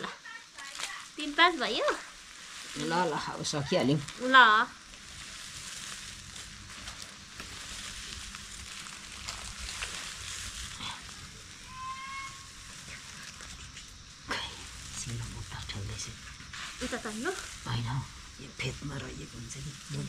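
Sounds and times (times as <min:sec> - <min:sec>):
dry leaves rustling and crackling: 0:00.0 - 0:20.0.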